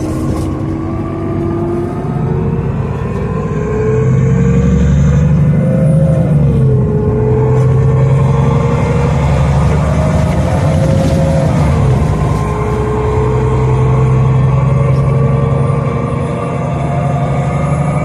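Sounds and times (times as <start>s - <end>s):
bus engine accelerating: 0.0s - 18.0s.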